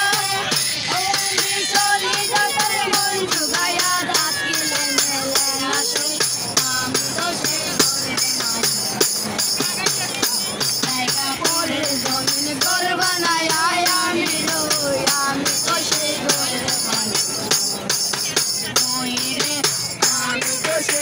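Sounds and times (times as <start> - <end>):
tambourine jingling: 0.0 - 21.0.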